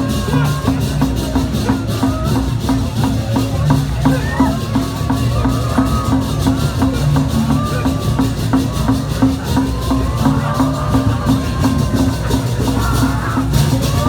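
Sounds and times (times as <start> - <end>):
voices: 0.0 - 14.0.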